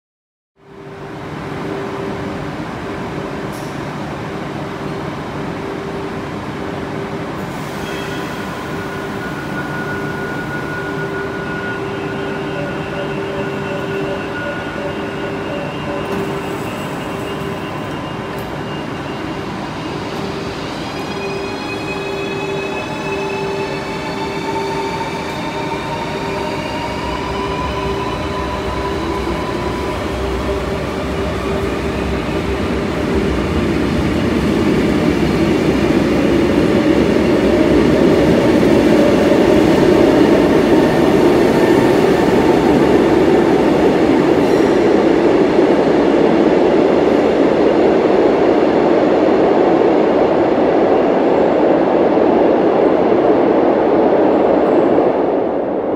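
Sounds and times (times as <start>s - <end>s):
train running noise: 0.6s - 55.9s.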